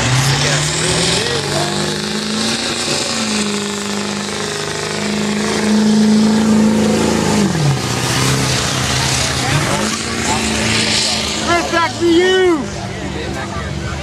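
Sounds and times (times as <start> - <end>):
truck engine revving high: 0.0 - 14.0.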